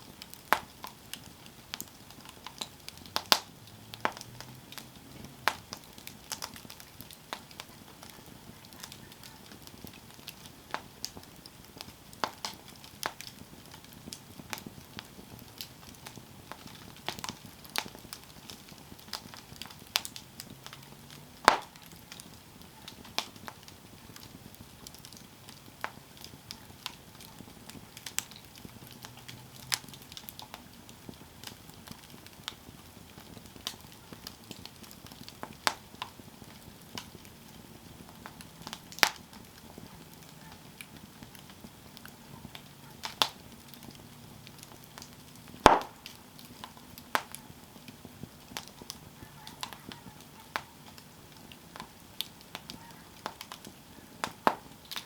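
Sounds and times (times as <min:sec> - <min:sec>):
fire hiss: 0:00.0 - 0:49.2
campfire crackling and popping: 0:00.0 - 0:55.0.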